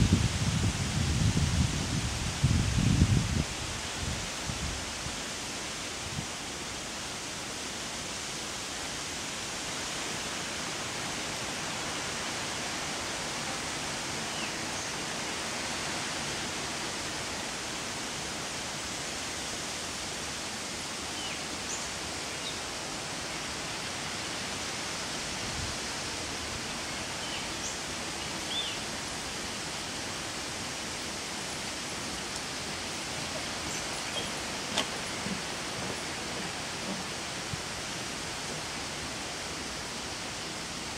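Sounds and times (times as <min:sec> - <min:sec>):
steady rushing background noise: 0:00.0 - 0:40.9.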